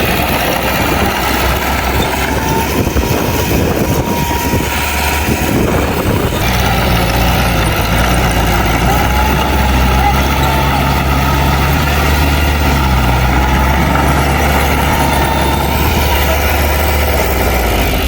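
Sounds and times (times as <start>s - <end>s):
heavy diesel engine droning: 0.0s - 18.0s.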